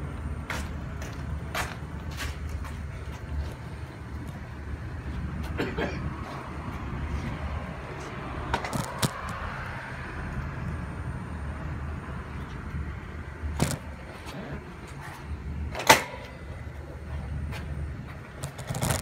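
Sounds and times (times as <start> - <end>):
background traffic rumble: 0.0 - 19.0.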